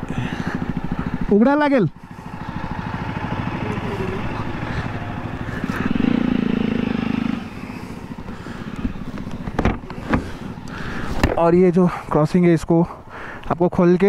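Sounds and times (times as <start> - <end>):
motorcycle engine idling: 0.0 - 13.5.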